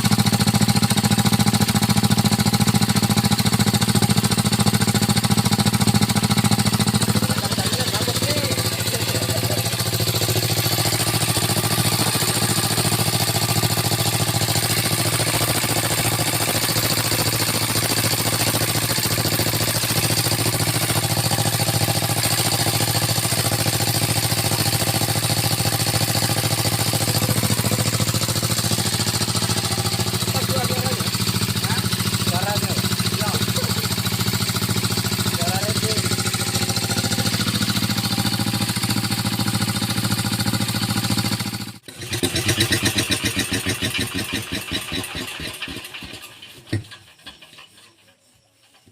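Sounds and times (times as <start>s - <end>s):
diesel engine exhaust beat: 0.0s - 46.2s.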